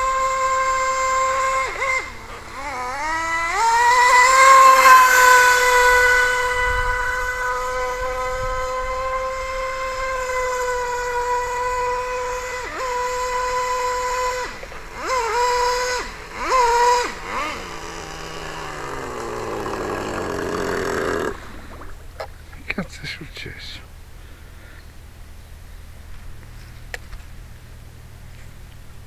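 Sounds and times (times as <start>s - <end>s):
two-stroke boat engine whining: 0.0s - 26.6s.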